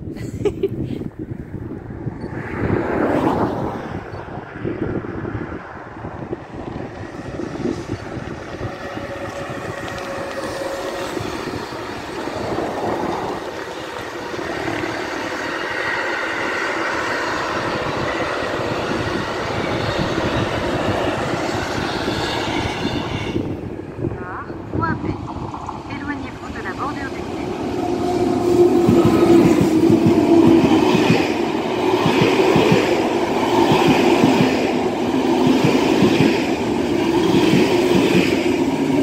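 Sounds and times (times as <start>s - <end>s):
freight train wheels on rails: 1.0s - 39.0s.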